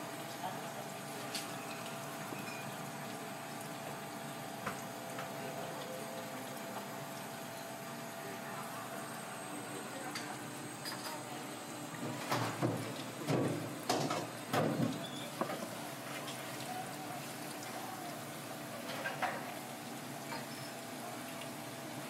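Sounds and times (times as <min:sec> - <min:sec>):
steady kitchen hum: 0:00.0 - 0:22.0.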